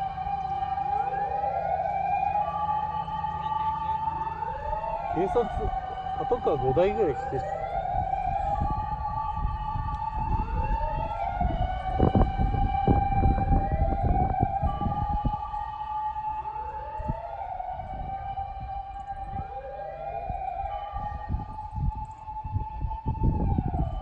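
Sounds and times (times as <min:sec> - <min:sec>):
emergency sirens wailing: 0:00.0 - 0:24.0.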